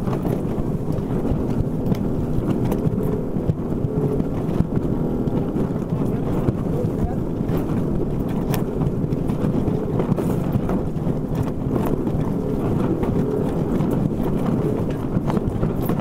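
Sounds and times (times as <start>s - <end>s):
water rushing past a hull: 0.0s - 16.0s
wind buffeting the microphone: 0.0s - 16.0s.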